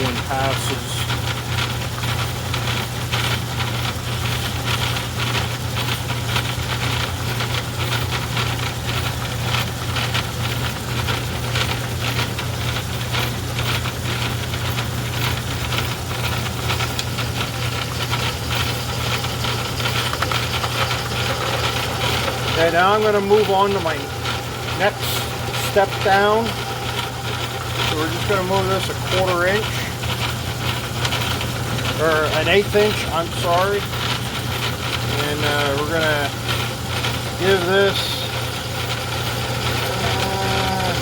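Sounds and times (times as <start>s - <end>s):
metal lathe humming and rattling: 0.0s - 41.0s.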